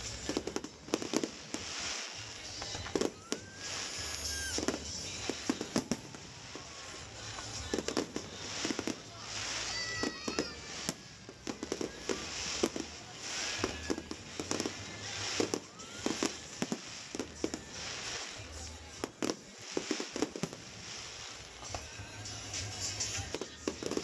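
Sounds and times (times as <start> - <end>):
fireworks bangs and crackling: 0.0 - 24.0
fireworks whistles: 0.0 - 24.0.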